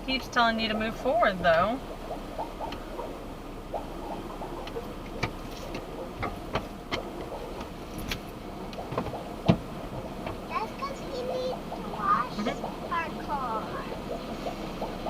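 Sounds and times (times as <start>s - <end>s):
car idling hum: 0.0s - 15.0s.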